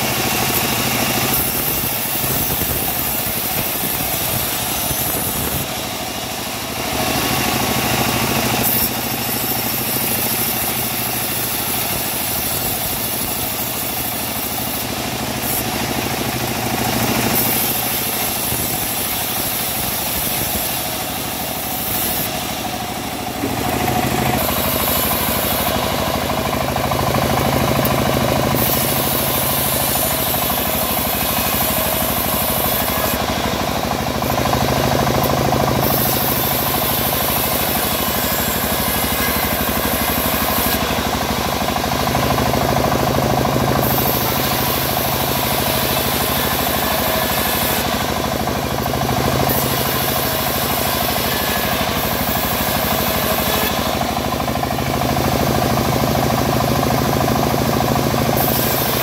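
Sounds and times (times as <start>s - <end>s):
band saw cutting log: 0.0s - 59.0s
sawmill engine running: 0.0s - 59.0s.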